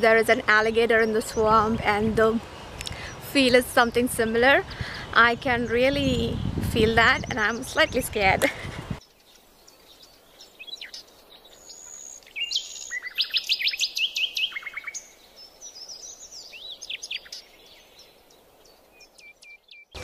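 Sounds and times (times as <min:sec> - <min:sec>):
birds calling and singing: 0:00.0 - 0:20.0.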